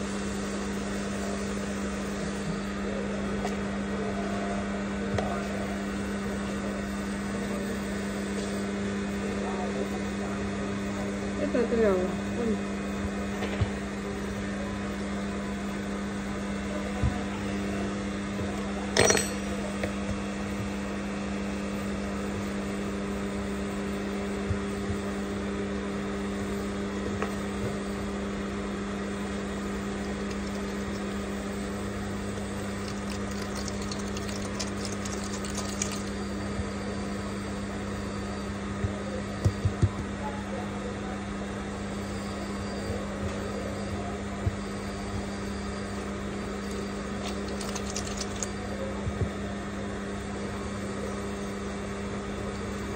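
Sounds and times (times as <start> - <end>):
machine hum: 0.0 - 40.2, 40.9 - 52.9.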